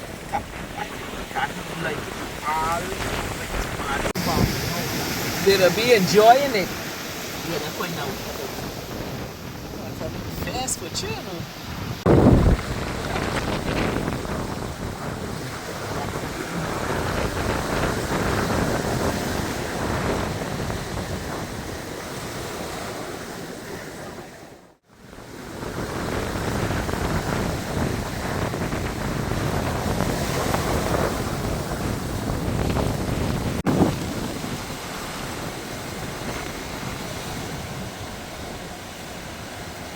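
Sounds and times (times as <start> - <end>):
surf rushing: 0.0 - 39.9
wind buffeting microphone: 0.0 - 39.9.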